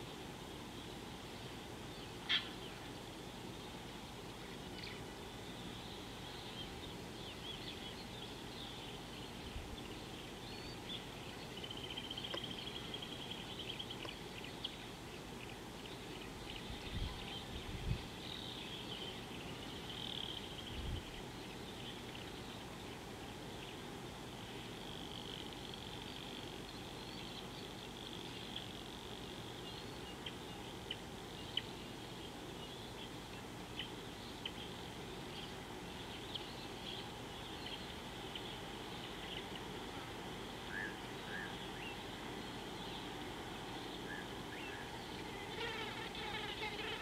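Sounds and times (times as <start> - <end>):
outdoor hiss: 0.0 - 47.0
birds chirping and trilling: 1.9 - 23.8, 24.5 - 47.0.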